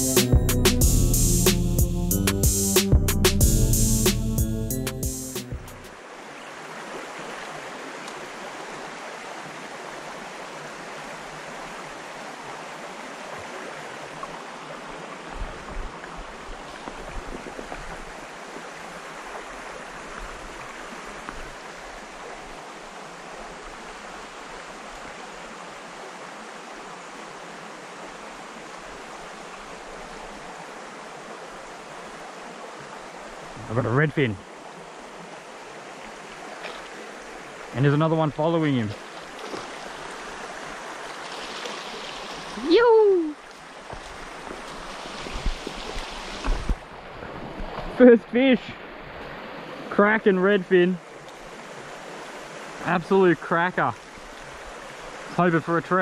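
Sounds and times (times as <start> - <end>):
river running over rocks: 5.9 - 56.0.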